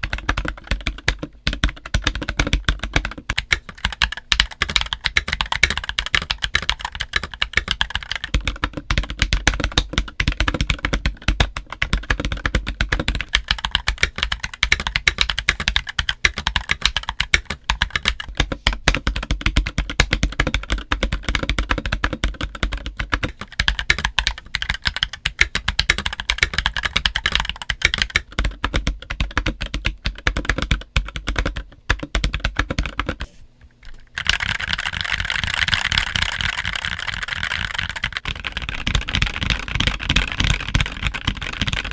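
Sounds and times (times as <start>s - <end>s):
fast typing on mechanical keyboard: 0.0s - 41.9s.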